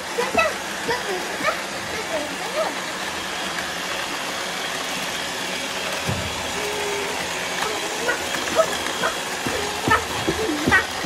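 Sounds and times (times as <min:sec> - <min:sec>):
robot vacuum cleaners hissing: 0:00.0 - 0:11.0.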